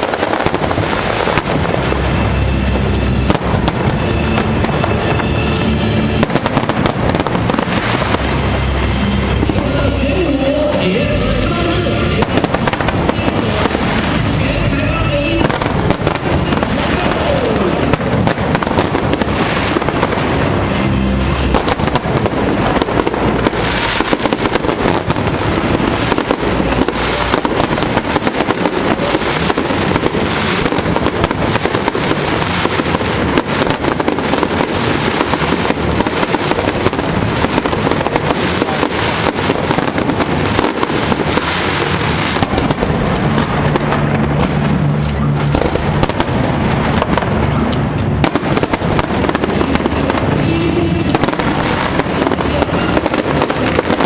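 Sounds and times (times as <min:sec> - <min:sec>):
fireworks bangs and crackling: 0:00.0 - 0:54.0
music: 0:00.1 - 0:54.0.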